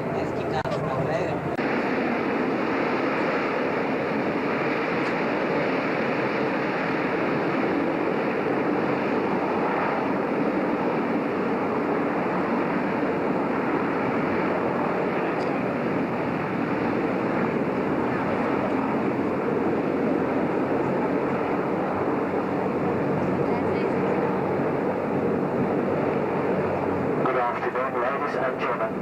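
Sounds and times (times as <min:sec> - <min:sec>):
ferry engine drone: 0:00.0 - 0:10.6, 0:12.6 - 0:29.0.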